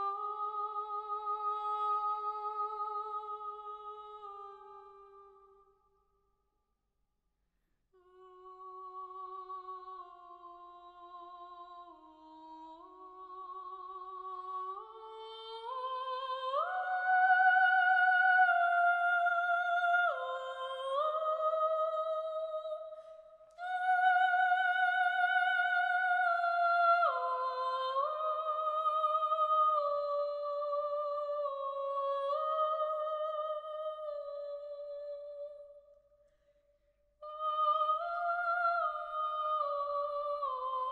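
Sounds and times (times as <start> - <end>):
soprano voice singing: 0.0 - 5.5, 8.0 - 35.7, 37.2 - 40.9.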